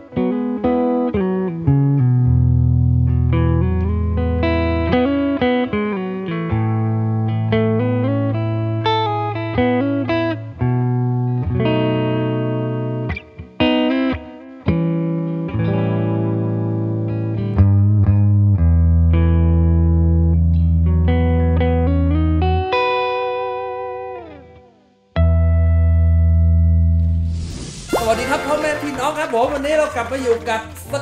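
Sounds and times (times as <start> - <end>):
electric guitar melody: 0.0 - 31.0.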